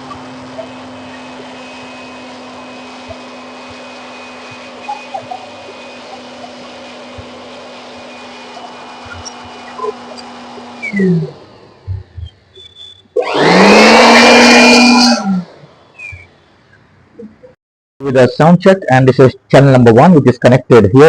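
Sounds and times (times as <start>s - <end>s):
fan motor whirring: 0.0s - 16.9s.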